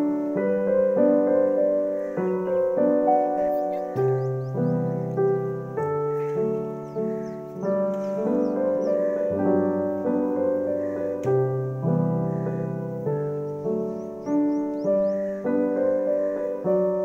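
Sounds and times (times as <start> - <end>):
gentle keyboard tune: 0.0 - 17.0.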